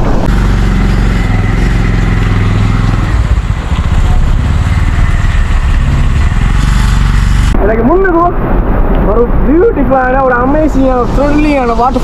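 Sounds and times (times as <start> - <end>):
road and air noise: 0.0 - 12.0
vehicle engines running: 0.0 - 12.0.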